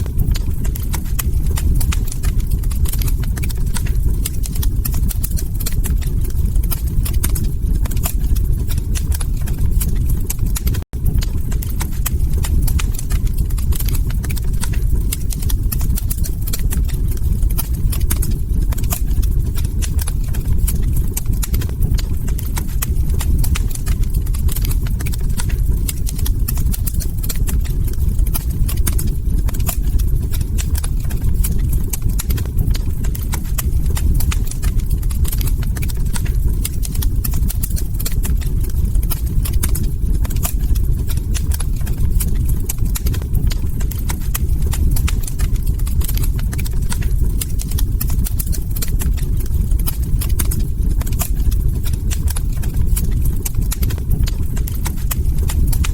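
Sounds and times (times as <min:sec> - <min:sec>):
log fire crackling: 0:00.0 - 0:55.9
low rumble: 0:00.0 - 0:55.9.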